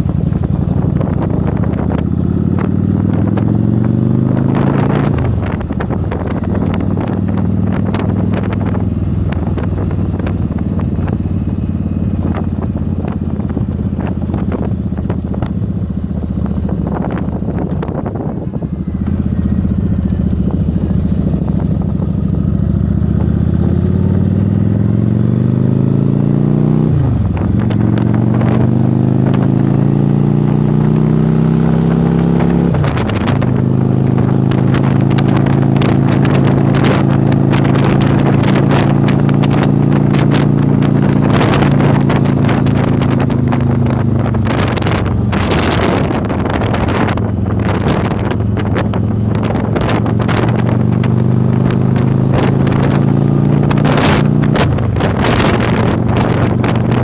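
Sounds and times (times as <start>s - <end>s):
motorcycle engine accelerating: 0.0s - 57.0s
wind buffeting microphone: 0.0s - 57.0s.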